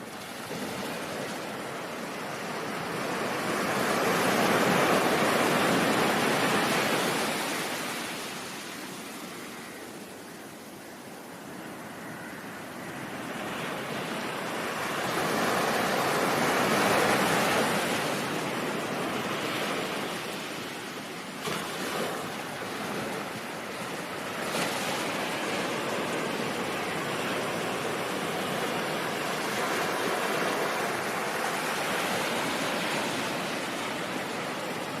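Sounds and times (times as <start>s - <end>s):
ocean waves washing in: 0.0s - 35.0s.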